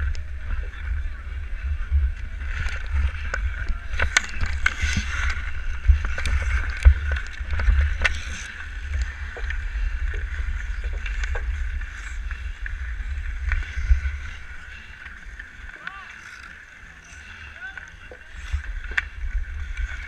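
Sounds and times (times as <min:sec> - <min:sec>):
low microphone rumble: 0:00.0 - 0:20.0.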